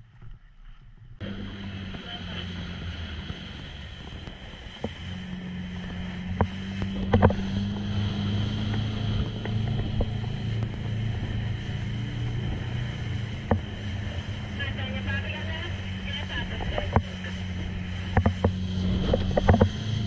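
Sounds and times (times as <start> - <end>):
hull slapping waves: 0.0 - 20.0
motorboat engine droning: 0.0 - 20.0.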